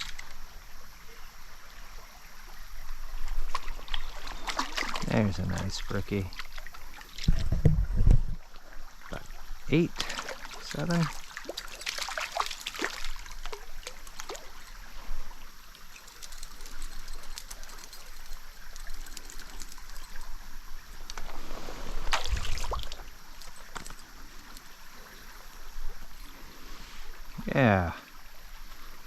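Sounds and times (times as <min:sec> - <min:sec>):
stream water trickling and splashing: 0:00.0 - 0:29.0.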